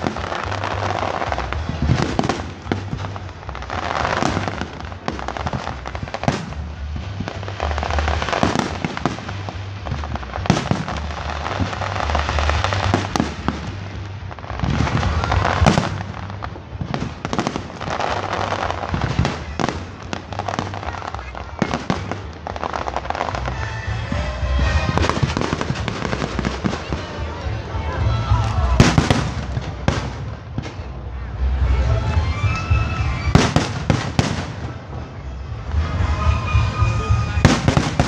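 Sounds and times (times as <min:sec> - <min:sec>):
fireworks bangs and crackling: 0:00.0 - 0:38.0
music playing: 0:00.0 - 0:38.0.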